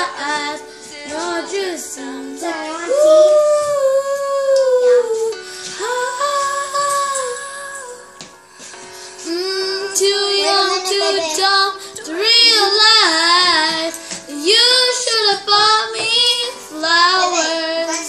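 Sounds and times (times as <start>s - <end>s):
girl singing pop ballad: 0.0s - 18.0s.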